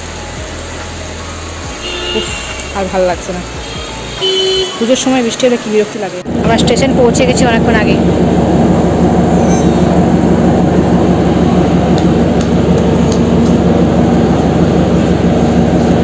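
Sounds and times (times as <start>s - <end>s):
train engine droning: 0.0s - 16.0s.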